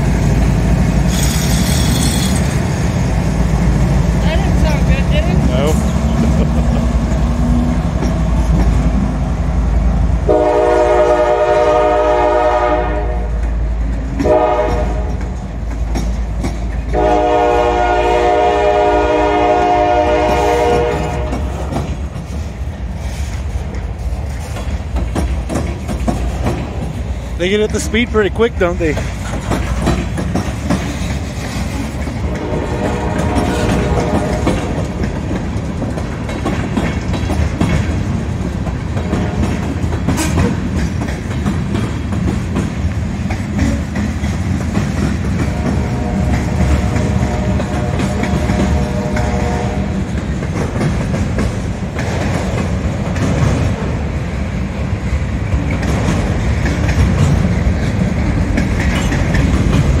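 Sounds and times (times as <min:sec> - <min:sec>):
freight train cars rolling past: 0:00.0 - 1:00.0
wheels clacking over rail joints: 0:00.0 - 1:00.0.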